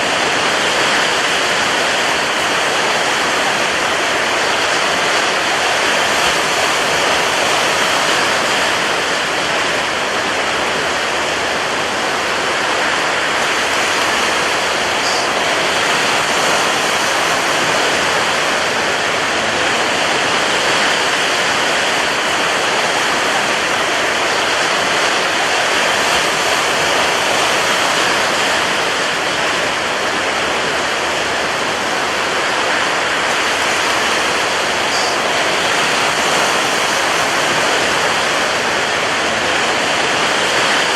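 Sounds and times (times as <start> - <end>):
rough sea and strong wind: 0.0 - 40.9.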